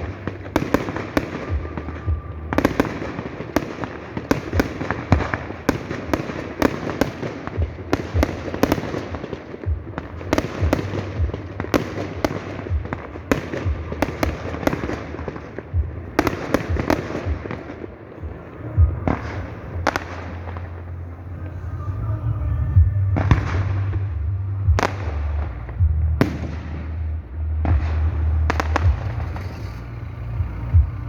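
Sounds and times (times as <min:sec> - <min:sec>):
fireworks crackle: 0:00.0 - 0:22.1, 0:23.0 - 0:31.0
fireworks bangs: 0:00.0 - 0:31.0.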